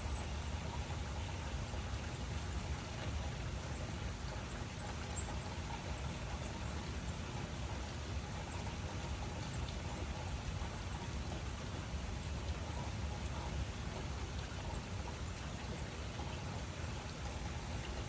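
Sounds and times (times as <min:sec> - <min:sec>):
rain drops ticking: 0:00.0 - 0:18.0
steady rainfall: 0:00.0 - 0:18.0.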